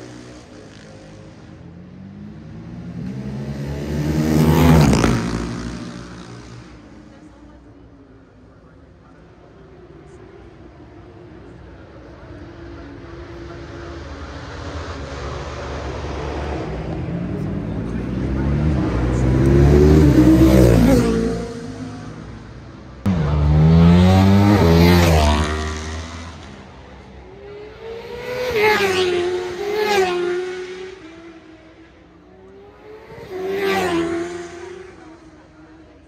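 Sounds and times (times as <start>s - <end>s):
racing motorcycles passing at speed: 0.0s - 8.2s, 8.8s - 36.0s.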